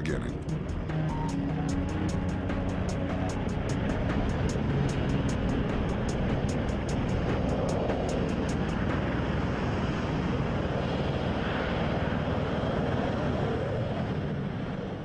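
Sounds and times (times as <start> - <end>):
tiltrotor aircraft droning: 0.0 - 15.0.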